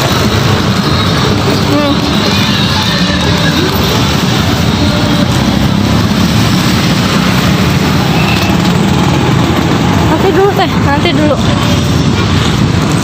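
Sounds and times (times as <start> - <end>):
road traffic engine hum: 0.0 - 13.0.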